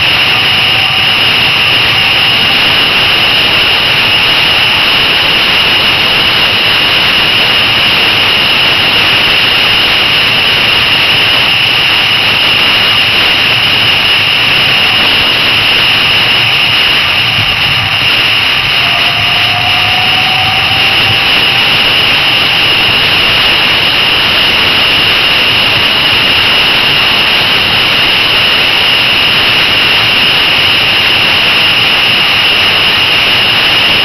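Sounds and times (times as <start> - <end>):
motorcycle road noise: 0.0 - 34.0
wind rush: 0.0 - 34.0.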